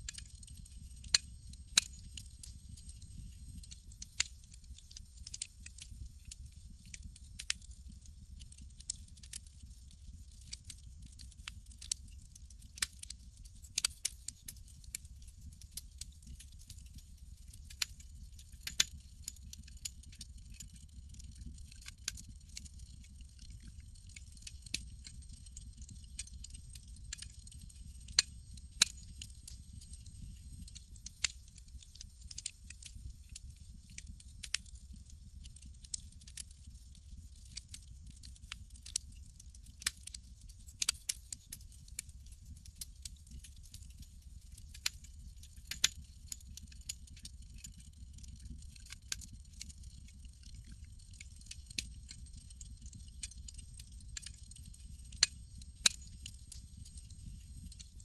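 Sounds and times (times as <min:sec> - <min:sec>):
campfire crackling: 0:00.1 - 0:12.0, 0:14.8 - 0:41.1, 0:41.8 - 0:50.8, 0:51.4 - 0:57.8.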